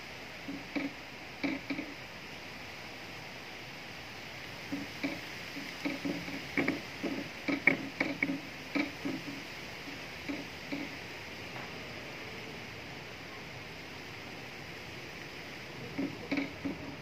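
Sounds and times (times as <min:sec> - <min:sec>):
wind hissing in trees: 0:00.0 - 0:17.0.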